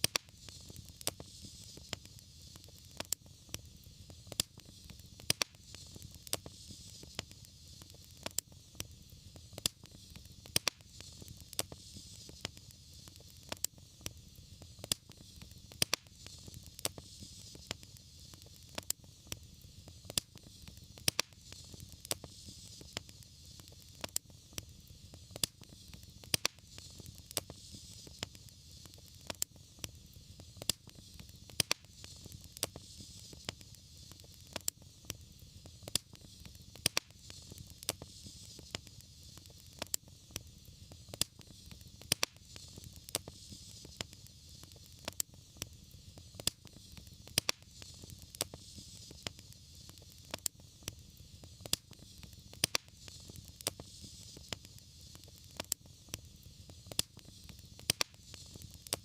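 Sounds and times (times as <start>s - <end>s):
flames hissing and rumbling: 0.0s - 59.0s
sharp pops and snaps: 0.0s - 59.0s
wood fire crackling: 0.0s - 59.0s.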